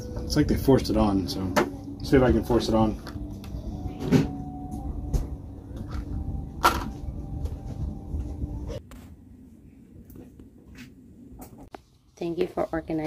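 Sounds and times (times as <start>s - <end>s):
steady low drone: 0.0s - 11.3s.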